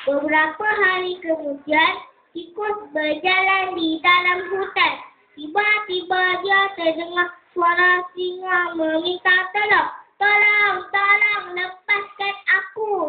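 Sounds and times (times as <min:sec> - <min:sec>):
boy singing into microphone: 0:00.0 - 0:13.0.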